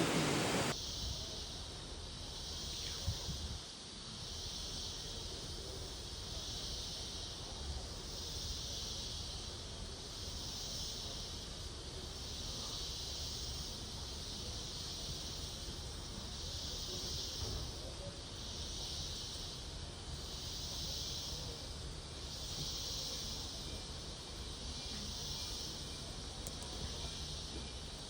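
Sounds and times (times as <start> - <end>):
night insects chorus: 0.0 - 28.0.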